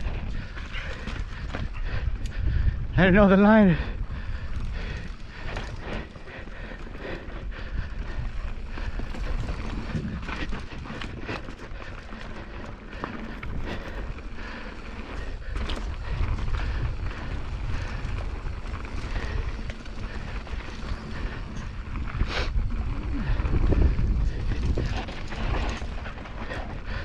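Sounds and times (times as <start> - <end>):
bike rattling and knocking: 0.0 - 27.0
wind buffeting microphone: 0.0 - 27.0.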